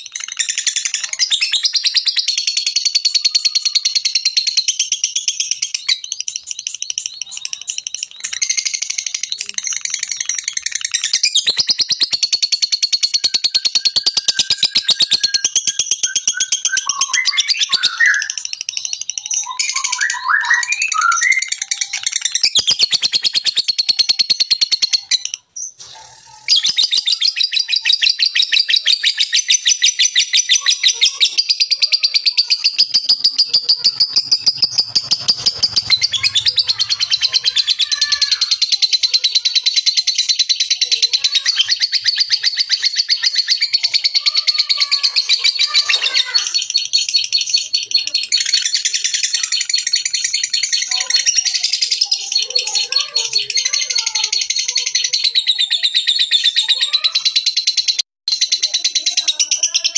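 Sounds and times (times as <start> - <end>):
lovebird chattering trill: 0.0 - 59.9.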